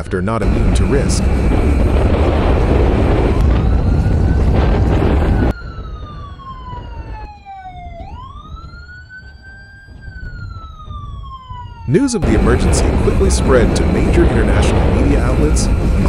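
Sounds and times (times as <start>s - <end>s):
aircraft roar: 0.0s - 8.3s, 11.2s - 16.0s
siren wailing: 0.4s - 16.0s.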